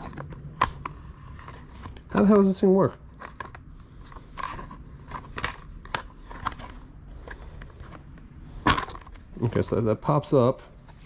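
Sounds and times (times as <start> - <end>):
book rack clicking and creaking: 0.0 - 9.8.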